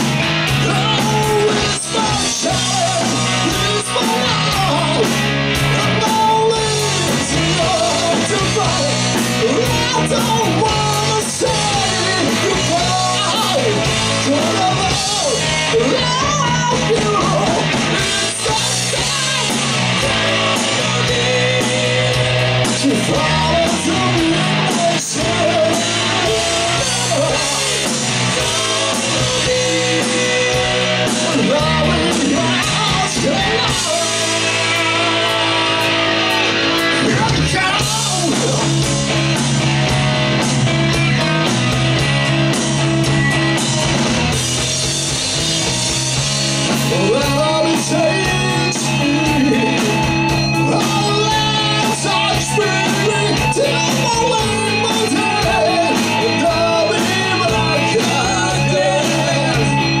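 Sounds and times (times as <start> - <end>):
person singing lead vocals: 0.0 - 39.9, 44.8 - 60.0
metal band playing: 0.0 - 60.0.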